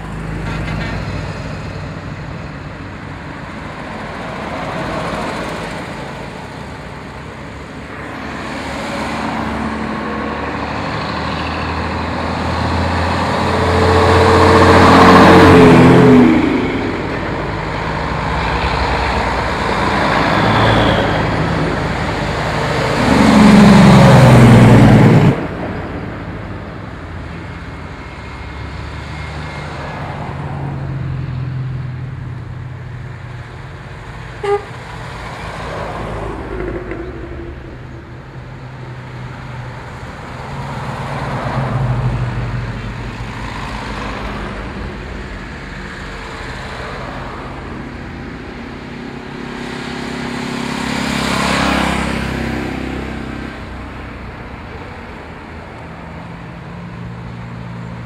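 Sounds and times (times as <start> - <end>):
cars driving past: 0.0 - 58.0
heavy truck passing: 0.0 - 58.0.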